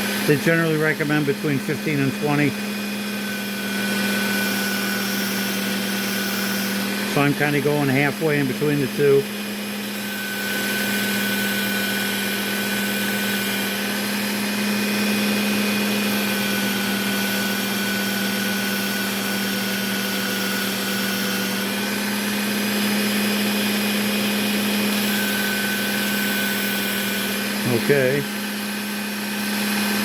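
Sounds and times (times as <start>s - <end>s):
sharpener motor whining: 0.0s - 30.0s.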